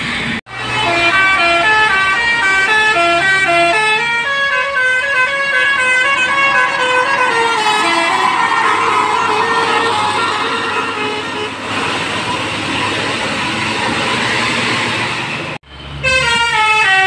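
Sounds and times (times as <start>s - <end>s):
bus melody horn: 0.5s - 14.5s, 16.0s - 17.0s.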